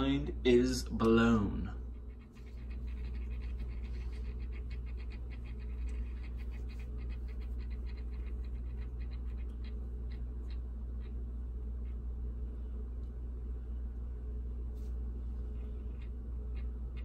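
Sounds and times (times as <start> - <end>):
rotating display stand humming: 0.0 - 17.0.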